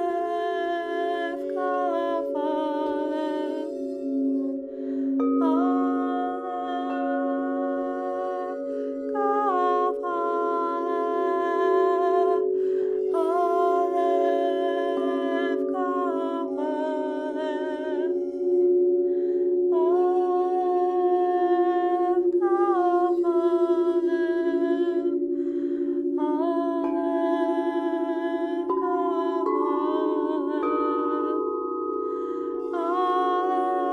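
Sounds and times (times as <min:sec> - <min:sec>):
singing bowls ringing: 0:00.0 - 0:33.9
woman toning wordless notes: 0:00.0 - 0:33.9.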